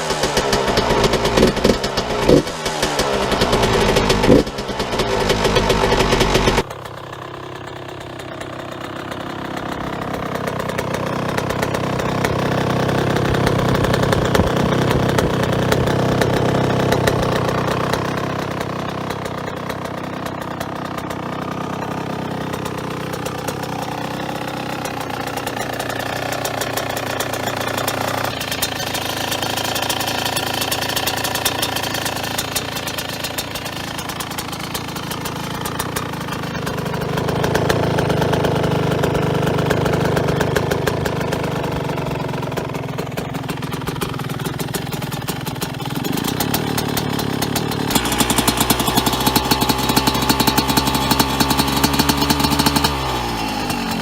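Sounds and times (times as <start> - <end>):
two-stroke motorcycle engine idling: 0.0 - 54.0.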